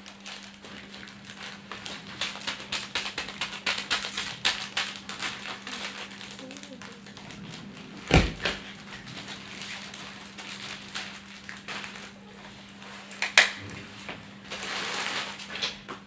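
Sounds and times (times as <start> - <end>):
plastic packets crinkling: 0.0 - 15.6
faint steady hum: 0.0 - 16.0.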